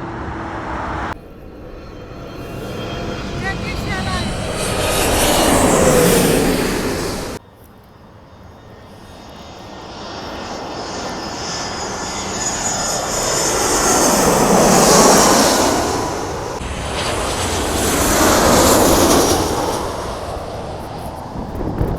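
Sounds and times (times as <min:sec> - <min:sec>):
airliner engine roar with high whine: 0:00.0 - 0:21.9
jet airliner engines roaring overhead: 0:00.0 - 0:21.9.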